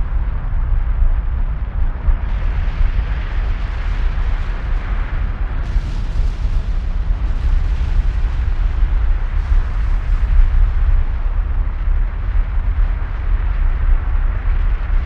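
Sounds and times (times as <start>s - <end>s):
low rumble: 0.0s - 15.0s
microphone wind buffeting: 0.0s - 15.0s.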